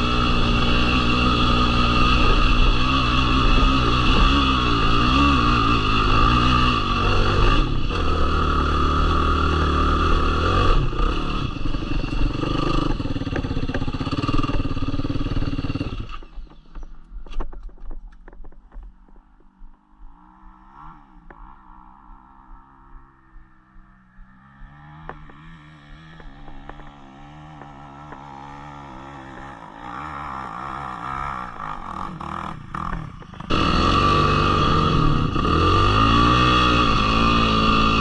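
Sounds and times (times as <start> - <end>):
quad engine running: 0.0 - 16.8, 22.6 - 38.0.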